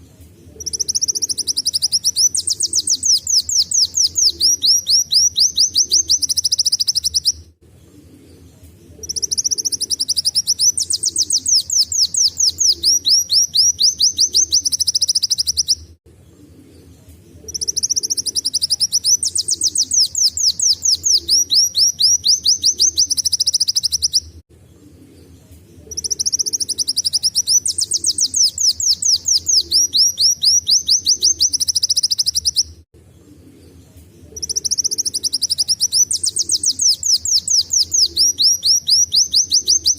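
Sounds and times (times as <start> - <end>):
bird singing rapid trills: 0.6 - 7.4, 9.0 - 15.8, 17.4 - 24.4, 25.8 - 32.8, 34.3 - 39.9.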